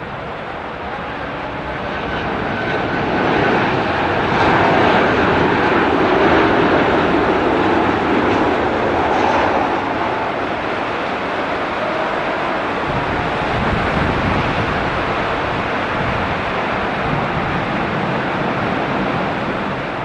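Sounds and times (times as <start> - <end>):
heavy rain: 0.0 - 20.0
jet engines: 0.0 - 20.0.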